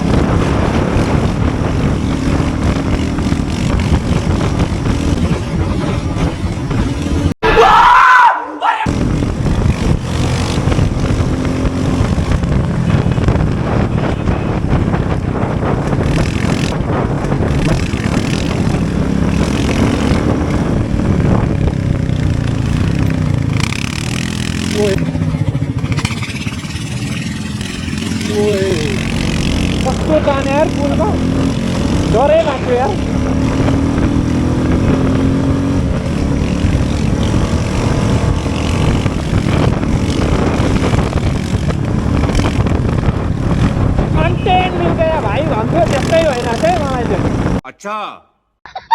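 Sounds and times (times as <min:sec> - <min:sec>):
motorcycle engine running: 0:00.0 - 0:07.4, 0:08.9 - 0:47.6
wind on microphone: 0:00.0 - 0:07.4, 0:08.8 - 0:25.9, 0:27.5 - 0:47.6
road noise: 0:00.0 - 0:08.3, 0:08.9 - 0:47.6.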